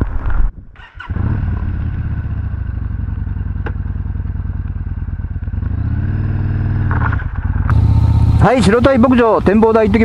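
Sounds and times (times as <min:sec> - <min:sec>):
motorcycle engine idling: 0:01.6 - 0:10.0.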